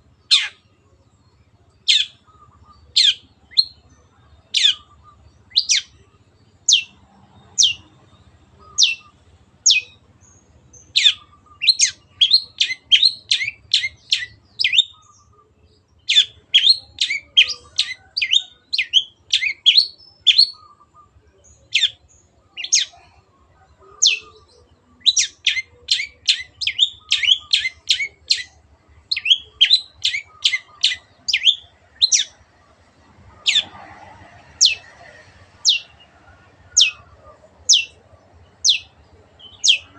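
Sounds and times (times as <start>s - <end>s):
shrike calling: 0.0s - 0.8s, 1.8s - 39.9s.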